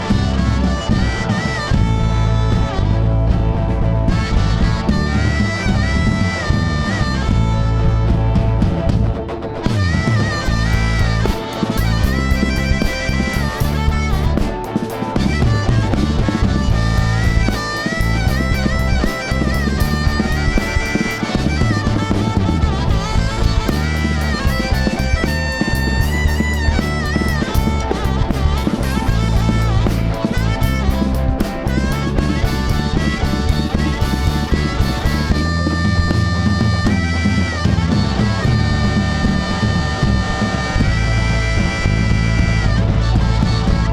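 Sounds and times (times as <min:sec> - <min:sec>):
bass and drums: 0:00.0 - 0:43.9
guitar sliding long notes: 0:00.0 - 0:43.9
live rock band playing: 0:00.0 - 0:43.9.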